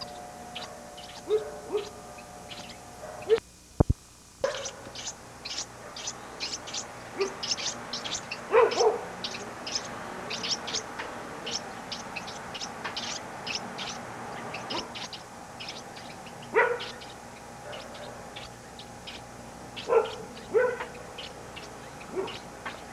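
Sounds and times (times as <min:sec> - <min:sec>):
lower-pitched bird calls: 0:00.0 - 0:03.4, 0:04.4 - 0:22.9
nestling birds cheeping: 0:00.0 - 0:22.9.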